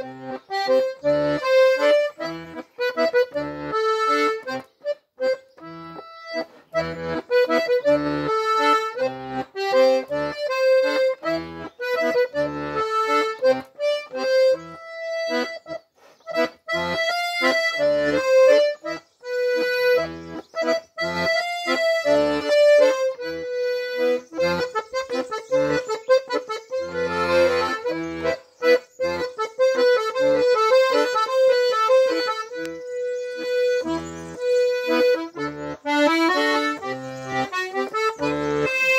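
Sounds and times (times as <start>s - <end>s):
button accordion waltz: 0.0s - 38.9s.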